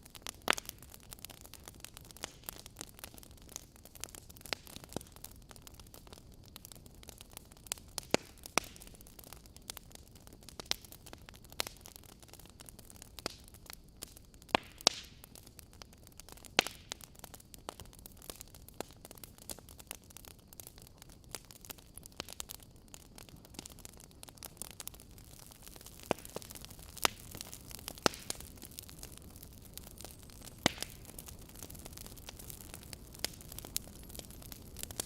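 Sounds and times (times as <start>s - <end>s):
low steady fire hiss: 0.0s - 35.0s
wood fire crackling and popping: 0.0s - 35.0s.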